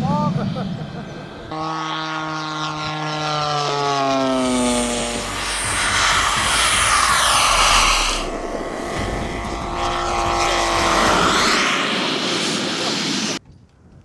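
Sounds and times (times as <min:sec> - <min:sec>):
model airplane flying past: 0:00.2 - 0:13.4.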